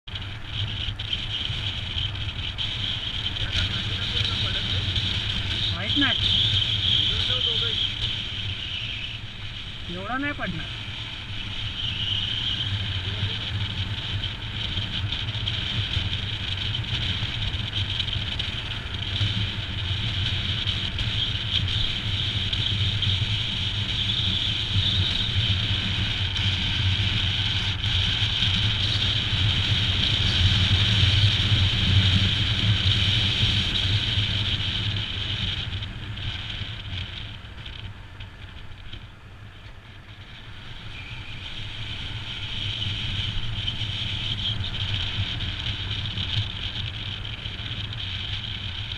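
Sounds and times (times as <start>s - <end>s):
motorcycle engine running: 0.0s - 48.9s
wind noise: 0.0s - 48.9s.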